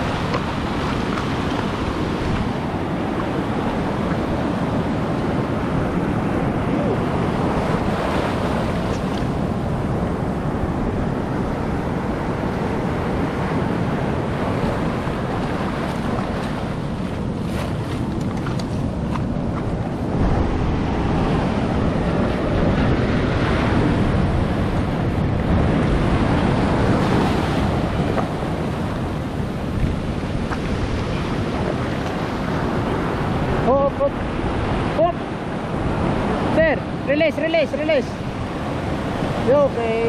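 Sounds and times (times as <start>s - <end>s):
surf breaking on rocky shore: 0.0s - 40.0s
wind buffeting microphone: 0.0s - 40.0s.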